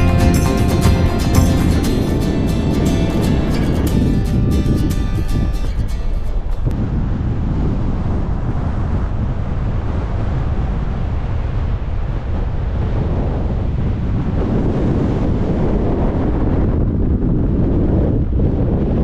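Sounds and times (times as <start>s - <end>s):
gale wind buffeting microphone: 0.0s - 19.0s.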